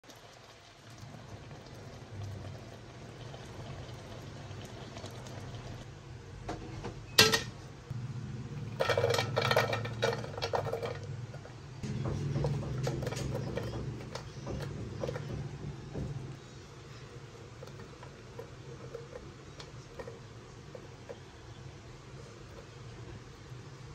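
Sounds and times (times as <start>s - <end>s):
steady low hum: 4.2s - 23.9s.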